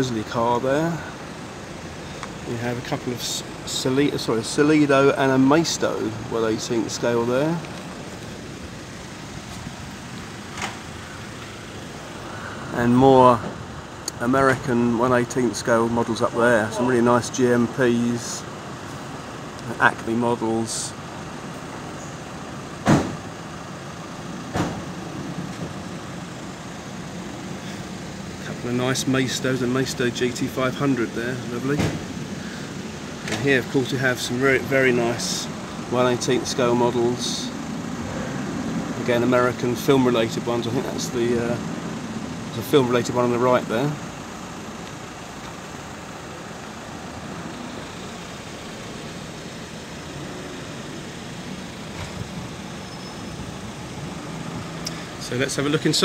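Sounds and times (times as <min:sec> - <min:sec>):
street traffic hum: 0:00.0 - 0:56.0
vehicle engine running: 0:00.0 - 0:56.0.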